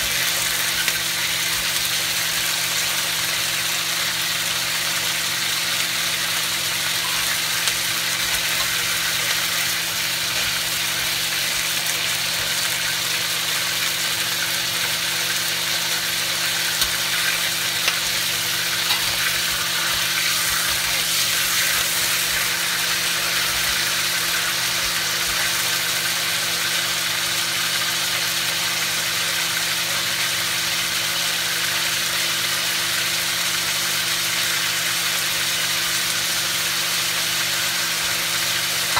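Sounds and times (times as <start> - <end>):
crabs sizzling in hot oil: 0.0 - 38.9.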